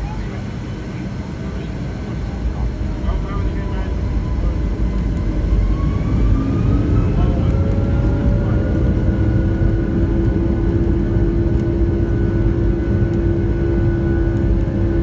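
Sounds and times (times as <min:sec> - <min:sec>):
faint engine whine: 0:00.0 - 0:15.0
jet engines rumbling: 0:00.0 - 0:15.0.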